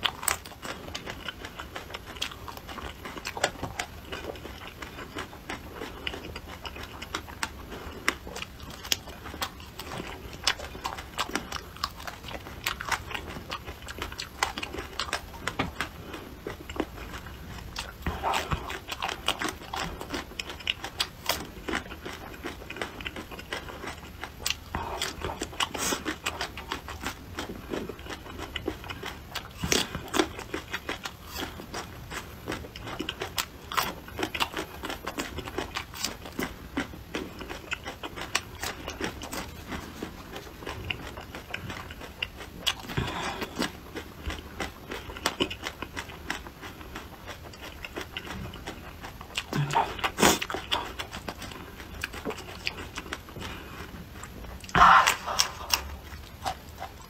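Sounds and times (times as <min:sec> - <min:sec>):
crunching raw vegetables: 0:00.0 - 0:57.0.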